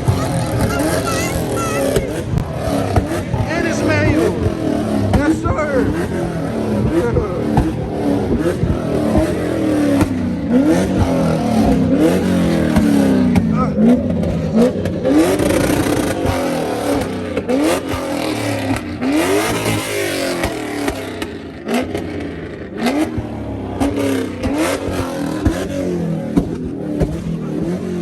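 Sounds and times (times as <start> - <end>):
car engine revving: 0.0 - 28.0
dense noisy background: 0.0 - 28.0.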